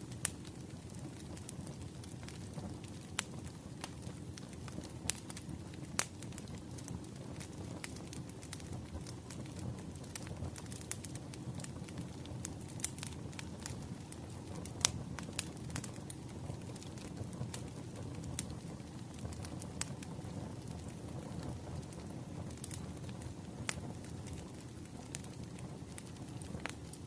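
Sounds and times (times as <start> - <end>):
fire popping and snapping: 0.0 - 27.0
wood fire crackling: 0.0 - 27.0.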